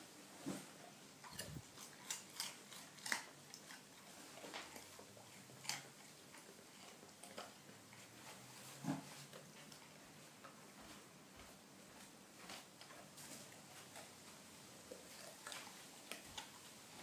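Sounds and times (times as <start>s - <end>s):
dog crunching a carrot: 1.2s - 10.5s, 12.4s - 17.0s.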